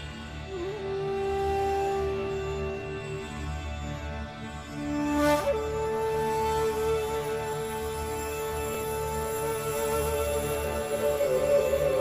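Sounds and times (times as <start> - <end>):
soft synthesizer background music: 0.0 - 12.0.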